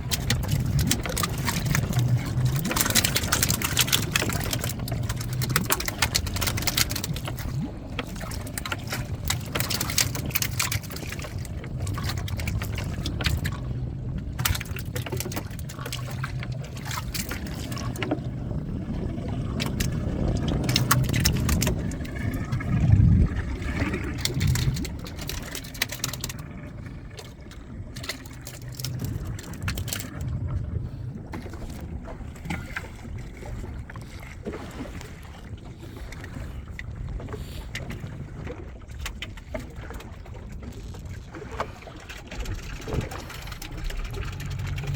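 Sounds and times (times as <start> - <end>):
boat engine low rumble: 0.0 - 44.9.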